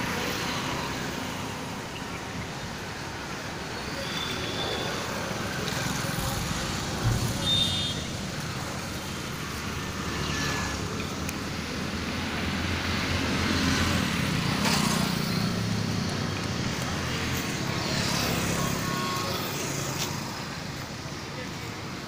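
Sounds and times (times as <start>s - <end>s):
traffic engine rumble: 0.0s - 22.0s.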